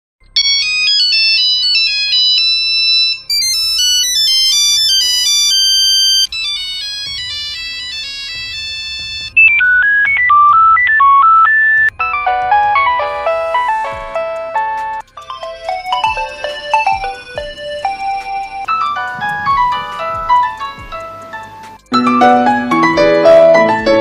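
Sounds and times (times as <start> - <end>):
phone ringtone melodies: 0.2 - 24.0.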